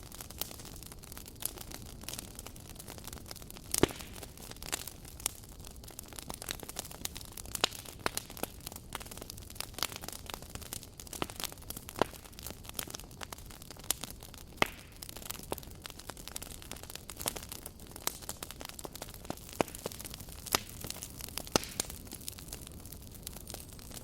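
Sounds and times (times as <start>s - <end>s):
burning wood popping and snapping: 0.0s - 24.0s.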